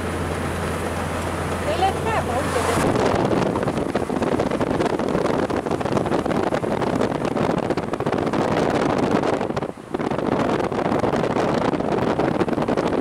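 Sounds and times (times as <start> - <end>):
car road noise: 0.0 - 13.0
wind buffeting microphone: 1.1 - 13.0.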